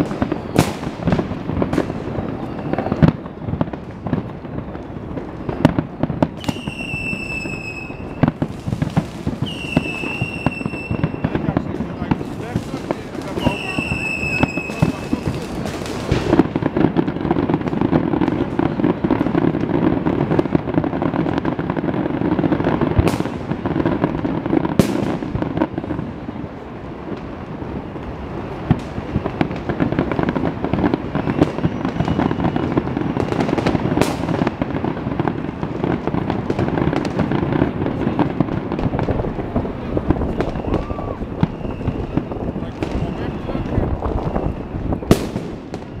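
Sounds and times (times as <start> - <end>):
fireworks bangs and crackling: 0.0 - 46.0
sharp firework cracks: 0.0 - 46.0.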